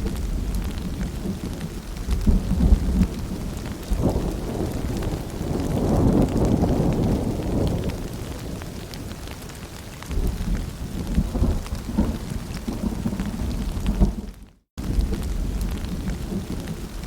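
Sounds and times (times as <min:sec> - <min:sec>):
rolling thunder: 0:00.0 - 0:09.4, 0:10.1 - 0:17.0
rain falling: 0:00.0 - 0:17.0.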